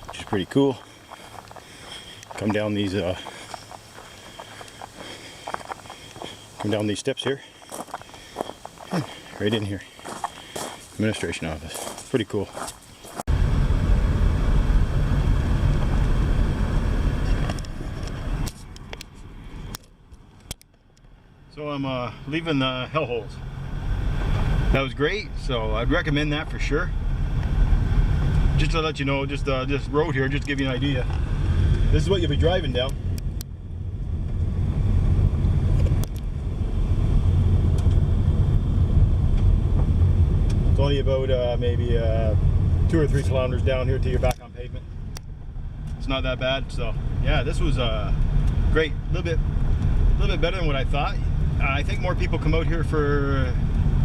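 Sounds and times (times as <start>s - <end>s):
car driving on gravel: 0.0s - 54.0s.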